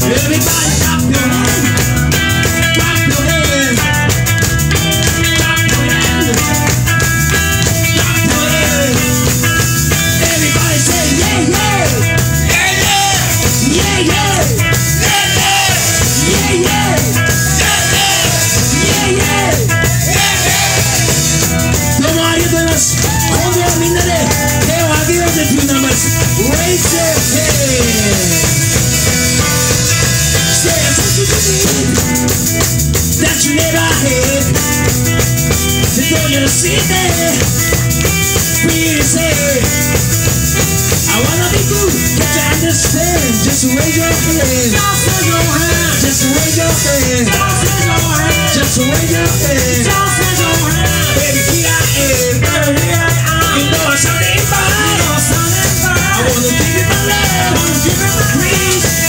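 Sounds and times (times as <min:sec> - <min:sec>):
man singing: 0:00.0 - 0:32.4, 0:33.0 - 0:40.0, 0:40.7 - 0:59.0
live soul band playing: 0:00.0 - 0:59.0.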